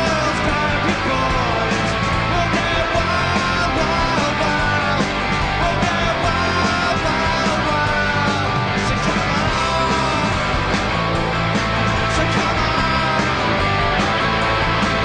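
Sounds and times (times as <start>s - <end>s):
rock music with guitars: 0.0s - 15.0s.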